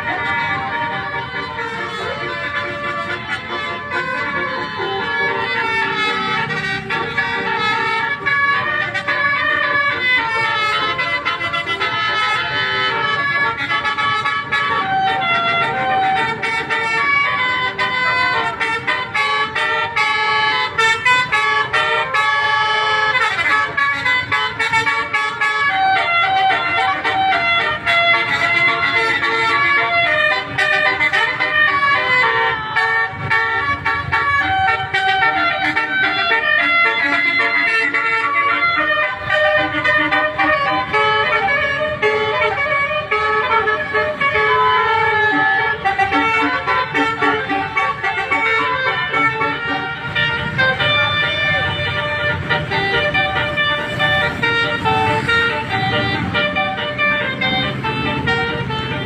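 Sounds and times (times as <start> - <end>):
multi-tone bus horn melody: 0.0 - 59.0.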